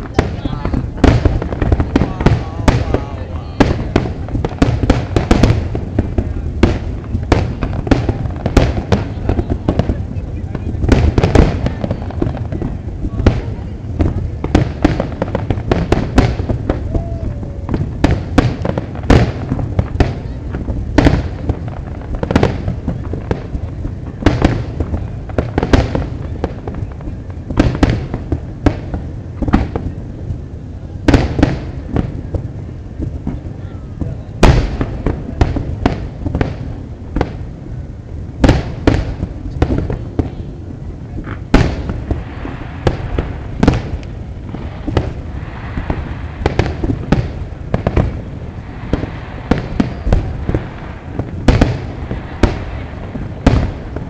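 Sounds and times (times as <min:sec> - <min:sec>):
fireworks bursting: 0:00.0 - 0:54.0
steady hiss: 0:00.0 - 0:54.0.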